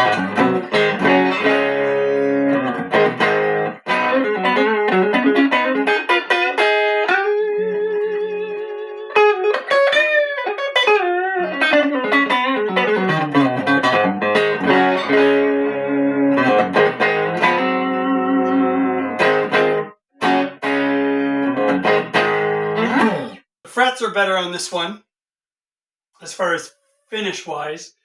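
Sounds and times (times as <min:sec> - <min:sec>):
clean electric guitar: 0:00.0 - 0:23.4.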